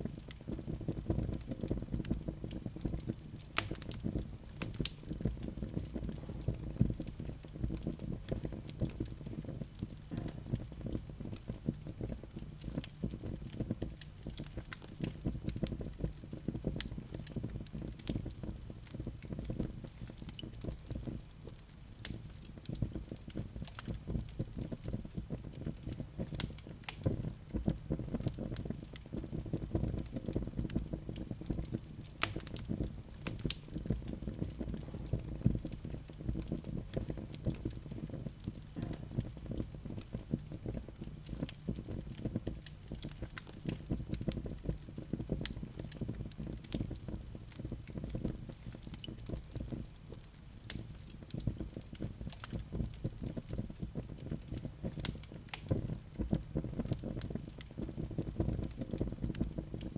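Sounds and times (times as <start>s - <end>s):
burning logs popping: 0.0s - 59.9s
wood fire crackling: 0.0s - 59.9s.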